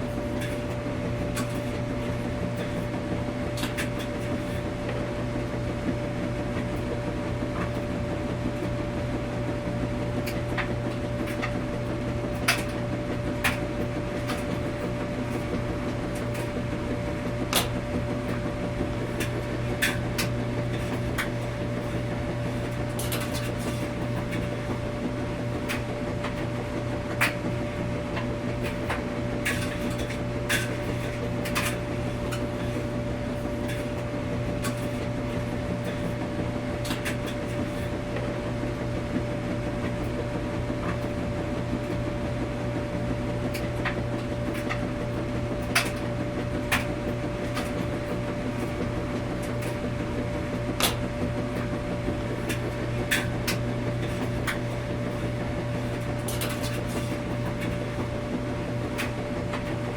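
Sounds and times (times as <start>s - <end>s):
washing machine droning: 0.0s - 59.9s.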